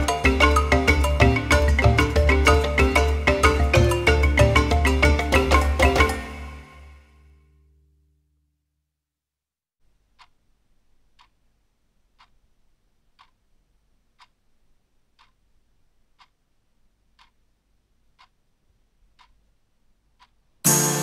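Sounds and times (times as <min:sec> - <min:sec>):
faint clock ticking: 0:00.0 - 0:06.6, 0:09.8 - 0:21.0.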